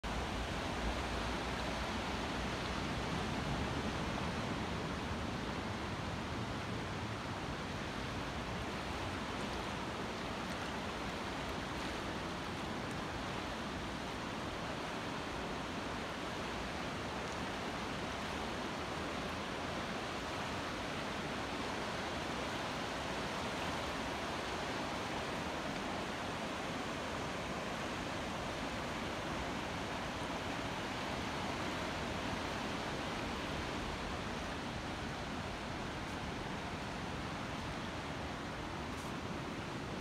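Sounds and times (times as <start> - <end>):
river water rushing over boulders: 0.0 - 40.0.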